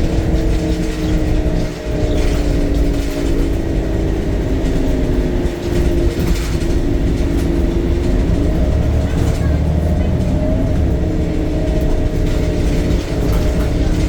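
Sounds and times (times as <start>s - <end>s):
bus diesel engine rumbling: 0.0s - 14.0s
driveline whine: 0.0s - 14.0s.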